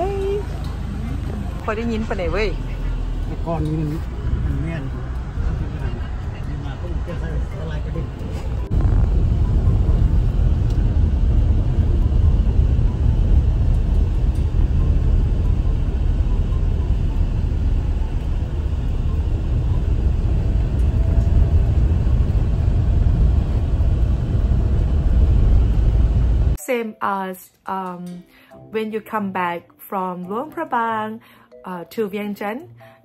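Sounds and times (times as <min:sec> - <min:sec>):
van engine and road rumble: 0:00.0 - 0:26.6.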